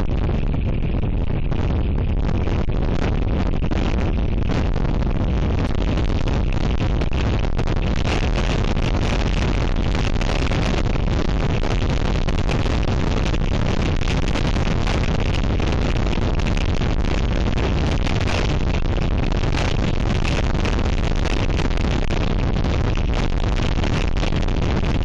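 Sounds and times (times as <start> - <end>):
wind roaring on microphone: 0.0 - 25.0.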